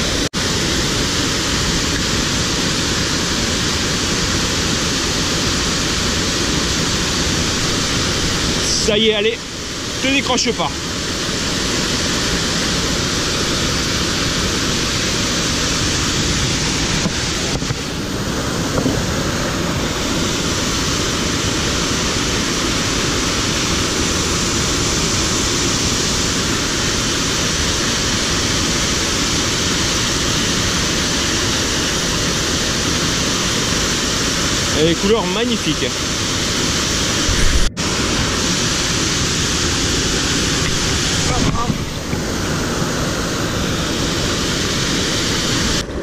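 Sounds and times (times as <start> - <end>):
fast stream flowing: 0.0 - 46.0
waterfall rushing into pool: 0.0 - 46.0.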